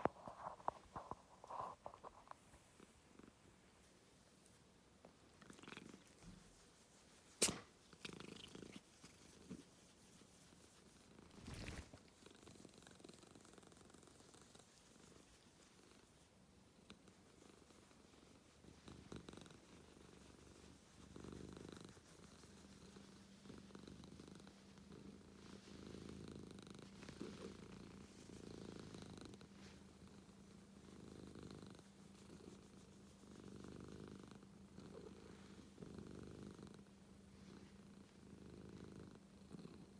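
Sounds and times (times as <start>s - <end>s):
cat purring: 5.3s - 6.8s, 7.8s - 39.9s.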